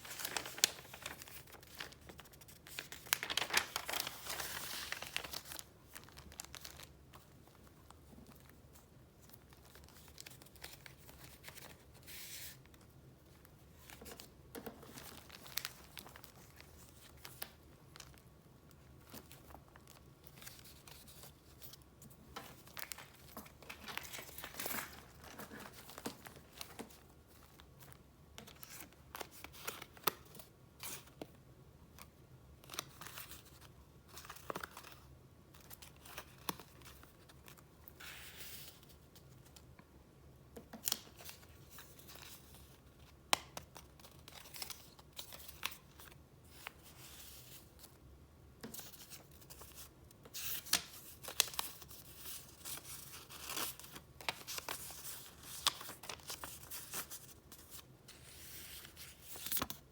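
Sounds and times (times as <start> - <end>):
paper rustling and crinkling: 0.0 - 31.3, 32.0 - 39.7, 40.6 - 48.0, 48.6 - 59.9.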